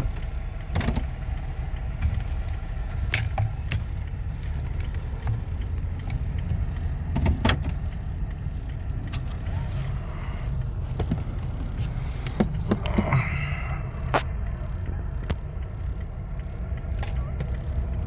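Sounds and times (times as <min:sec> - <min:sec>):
clicks and rattles: 0:00.0 - 0:18.0
vehicle engine rumbling: 0:00.0 - 0:18.0.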